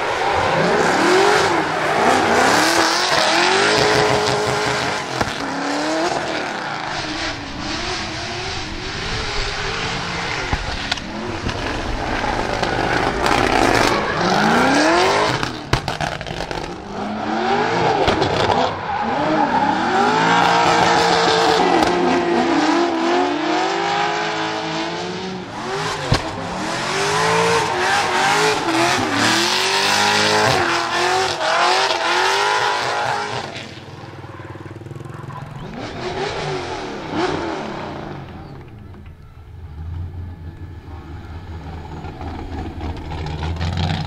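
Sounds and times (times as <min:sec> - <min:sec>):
car engine revving hard: 0:00.0 - 0:33.7, 0:35.6 - 0:38.3.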